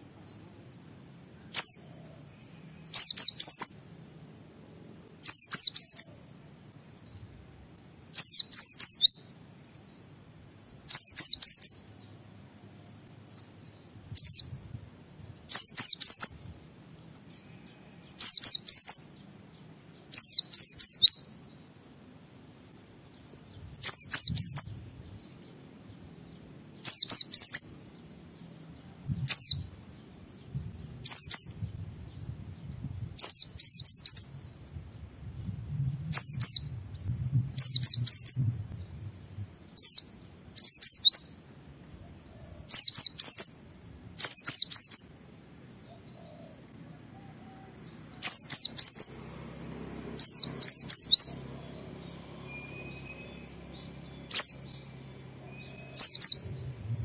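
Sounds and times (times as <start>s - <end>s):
bird twittering song: 0.0s - 4.0s, 4.6s - 57.0s.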